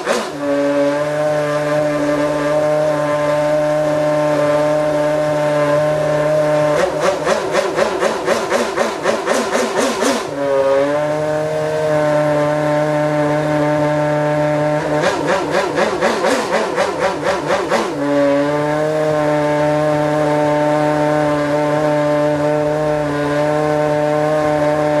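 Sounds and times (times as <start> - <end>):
engine throttle blips: 0.0 - 25.0.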